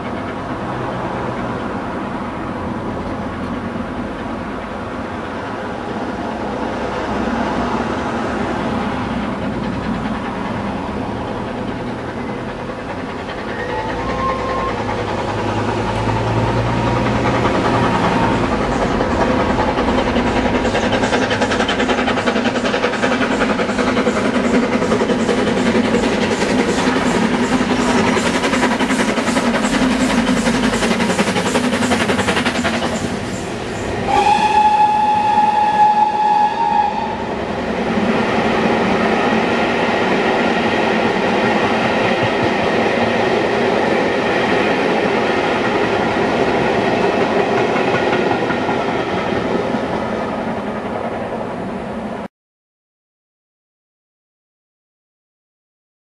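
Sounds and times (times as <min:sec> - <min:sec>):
steam locomotive exhaust beats: 0:00.0 - 0:52.3
wheels rumbling on rails: 0:00.0 - 0:52.3.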